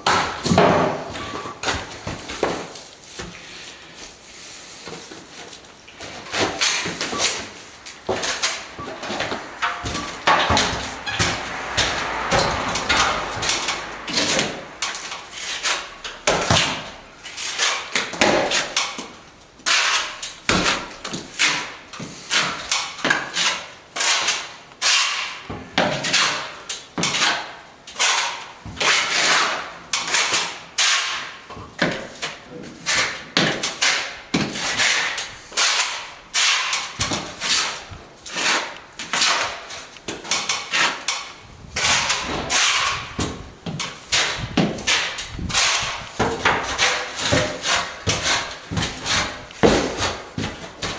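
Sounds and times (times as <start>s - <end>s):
trowel scraping wet render: 6.0s - 50.9s.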